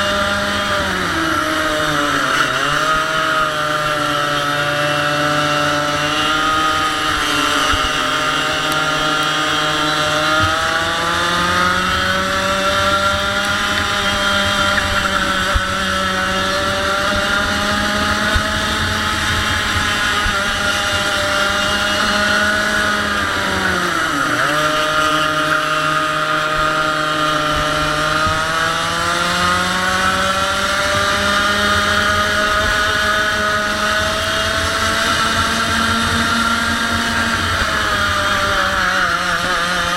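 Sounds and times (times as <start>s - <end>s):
kart engine revving high: 0.0s - 39.9s.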